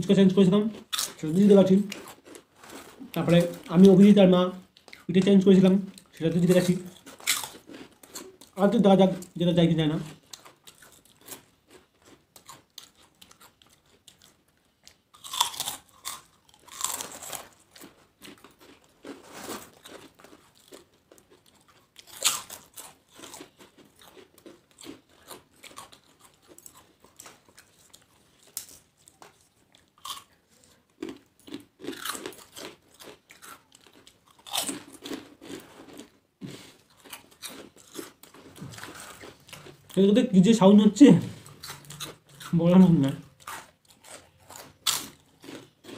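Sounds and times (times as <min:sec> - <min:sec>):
people chewing crisp papad: 0:00.0 - 0:45.9.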